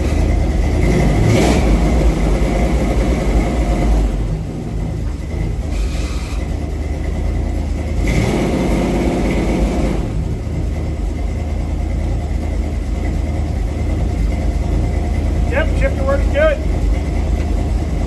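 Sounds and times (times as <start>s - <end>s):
pickup engine idling: 0.0s - 18.0s.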